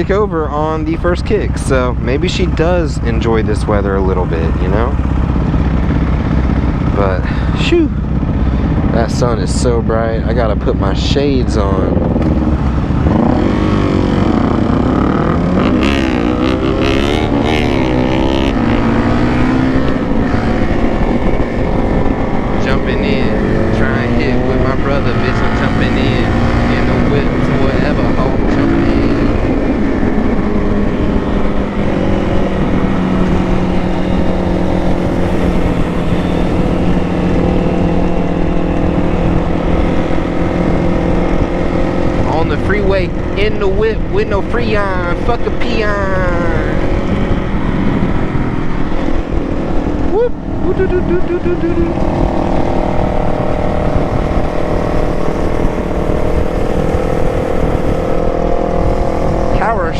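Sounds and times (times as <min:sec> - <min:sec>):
motorcycle engine cruising: 0:00.0 - 0:59.9
wind on microphone: 0:00.0 - 0:59.9.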